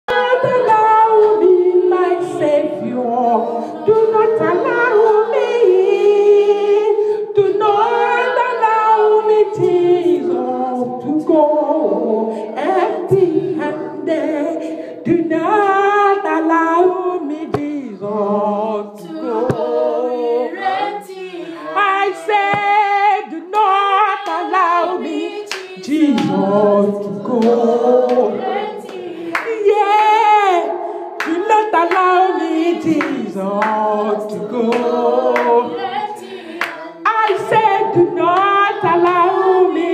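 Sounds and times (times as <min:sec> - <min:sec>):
group singing unaccompanied: 0:00.0 - 0:39.9.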